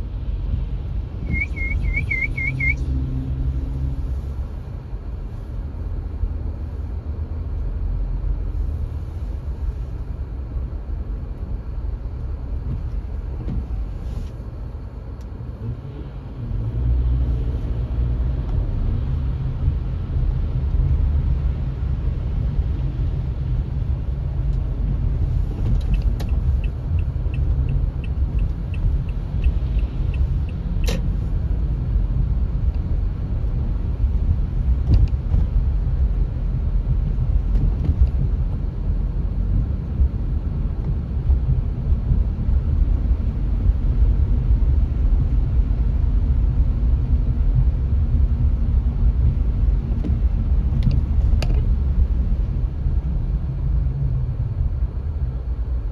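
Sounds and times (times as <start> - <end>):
car driving rumble from inside: 0.0 - 55.9.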